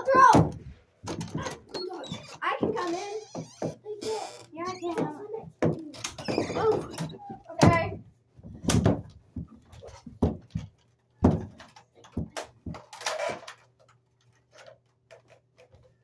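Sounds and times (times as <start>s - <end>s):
knocks and thumps: 0.0s - 13.4s.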